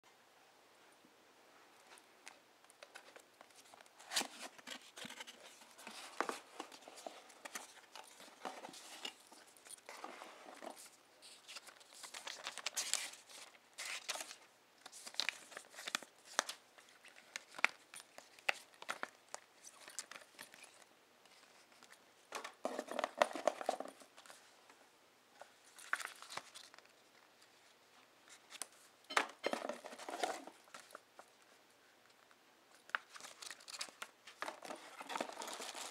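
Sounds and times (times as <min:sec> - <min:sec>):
paper and card rustling: 0:01.8 - 0:24.5, 0:25.4 - 0:35.9.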